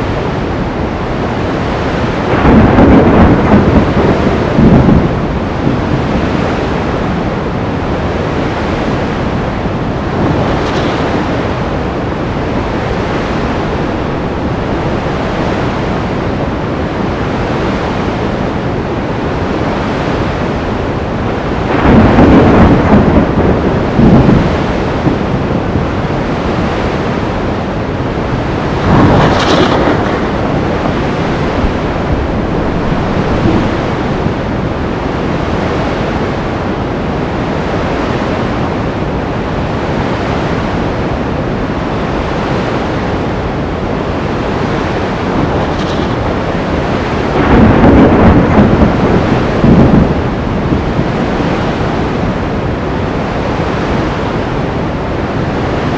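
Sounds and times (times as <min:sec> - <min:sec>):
thunder: 0:00.0 - 0:18.2, 0:19.8 - 0:36.6, 0:44.0 - 0:54.5, 0:55.1 - 0:55.9
crashing waves: 0:00.0 - 0:55.9
surf washing: 0:00.0 - 0:55.9
wind: 0:00.0 - 0:55.9.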